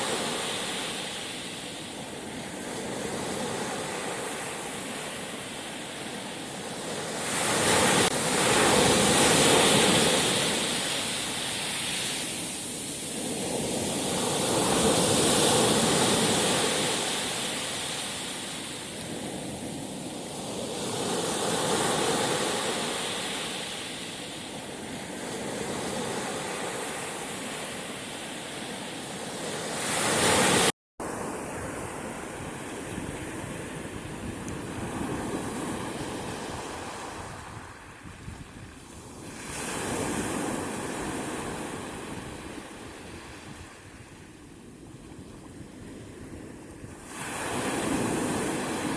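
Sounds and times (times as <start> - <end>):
waves breaking on shore: 0.0 - 48.9.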